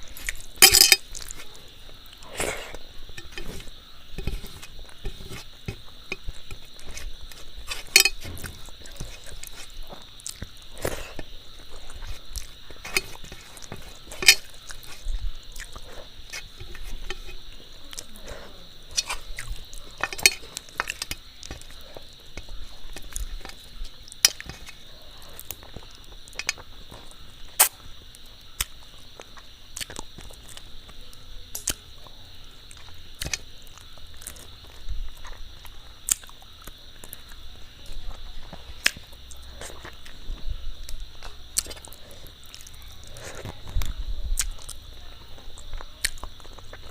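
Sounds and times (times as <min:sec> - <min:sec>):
chewing and mouth sounds: 0:00.0 - 0:30.7, 0:31.5 - 0:46.9
crickets trilling: 0:00.0 - 0:46.9.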